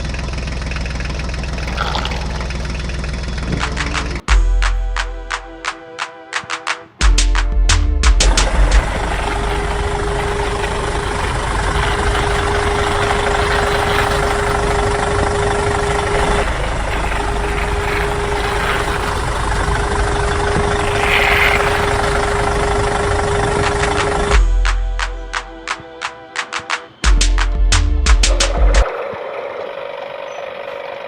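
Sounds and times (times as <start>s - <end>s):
engine-like running hum: 0.0s - 5.7s, 7.0s - 31.0s.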